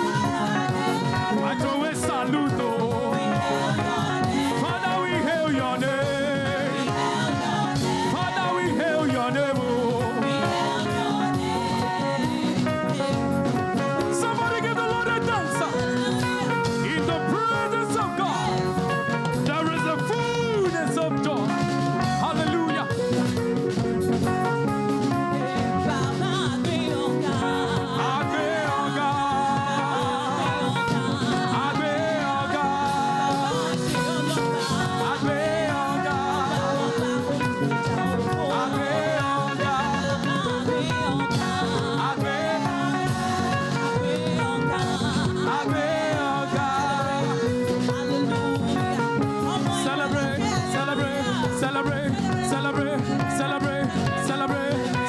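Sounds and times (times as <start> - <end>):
choir singing: 0.0 - 19.2, 25.4 - 55.0
band playing: 0.0 - 55.0.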